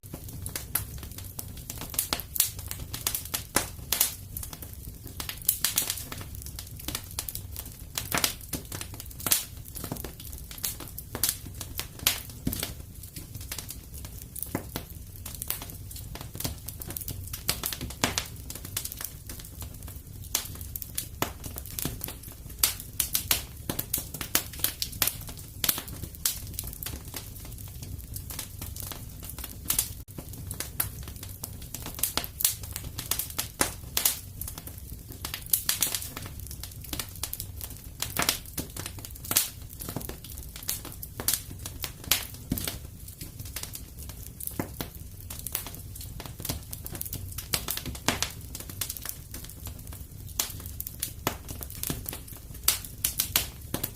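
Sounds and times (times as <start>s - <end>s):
fireplace fire crackling: 0.0s - 53.9s.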